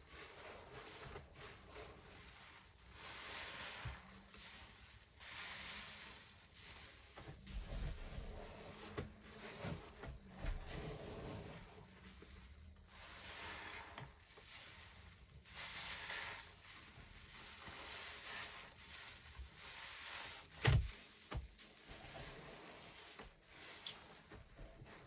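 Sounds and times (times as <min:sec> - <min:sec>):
foamy sponges squelching: 0:00.0 - 0:25.0.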